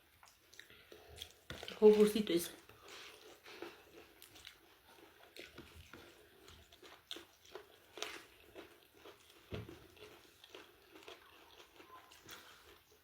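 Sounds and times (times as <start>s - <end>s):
person chewing wetly: 0.0s - 13.0s.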